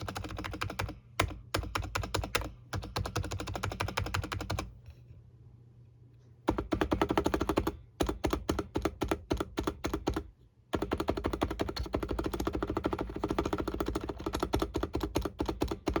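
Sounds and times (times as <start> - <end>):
fast typing on keyboard: 0.0 - 4.7, 6.5 - 16.0.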